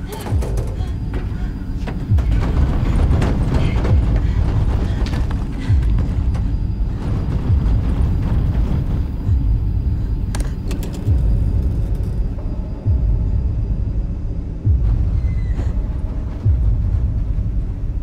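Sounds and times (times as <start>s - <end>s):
deep rumbling drone: 0.0s - 18.0s.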